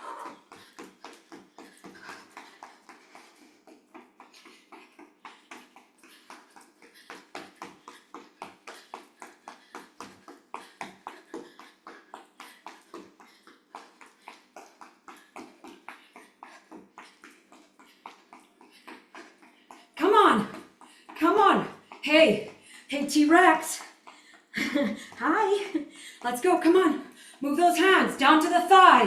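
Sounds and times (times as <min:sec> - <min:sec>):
footsteps marching in place: 0:00.0 - 0:29.0.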